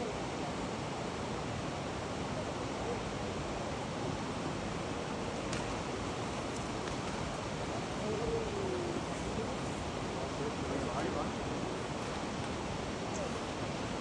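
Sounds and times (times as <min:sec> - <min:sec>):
moving water: 0:00.0 - 0:14.0
wind: 0:00.0 - 0:14.0.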